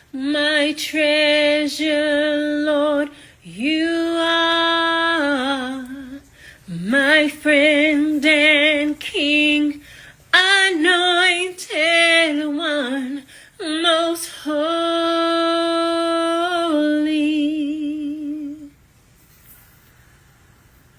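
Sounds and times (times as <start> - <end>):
woman singing unaccompanied: 0.0 - 18.8.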